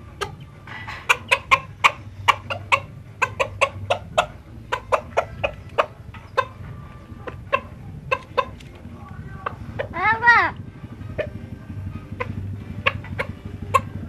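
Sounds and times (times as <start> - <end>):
chicken clucking: 0.0 - 10.5, 11.1 - 14.0.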